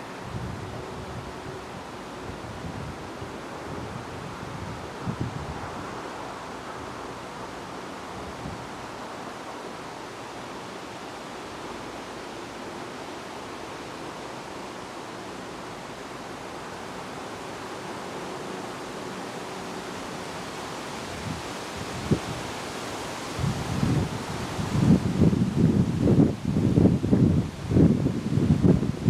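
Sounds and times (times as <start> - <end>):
leaves rustling: 0.0 - 29.0
wind blowing: 0.0 - 29.0.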